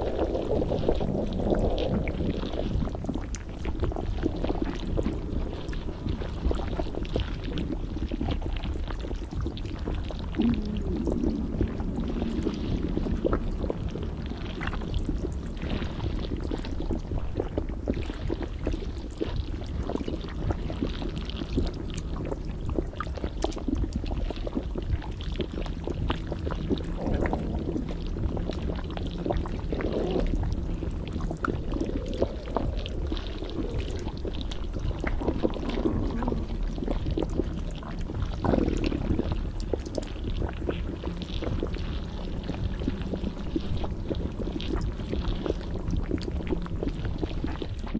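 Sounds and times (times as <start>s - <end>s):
stomach gurgling and sloshing: 0.0s - 47.9s.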